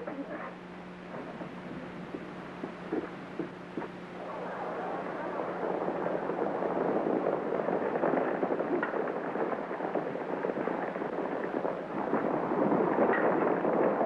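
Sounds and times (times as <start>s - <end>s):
horses galloping: 0.0s - 14.0s.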